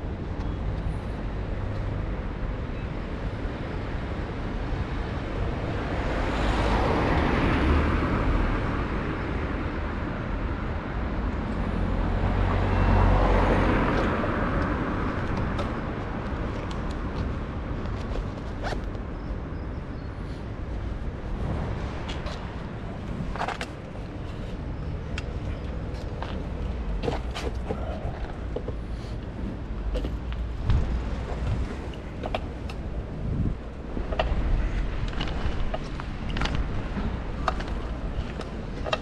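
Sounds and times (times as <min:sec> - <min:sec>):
low traffic rumble: 0:00.0 - 0:39.0
vehicles passing by: 0:00.0 - 0:39.0.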